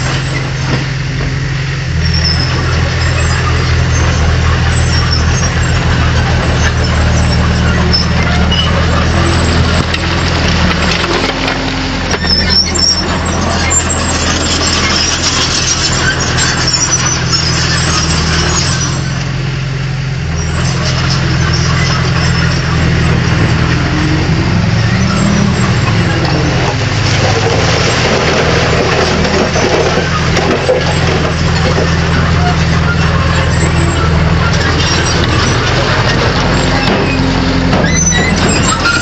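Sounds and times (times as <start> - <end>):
bulldozer diesel engine: 0.0 - 39.0.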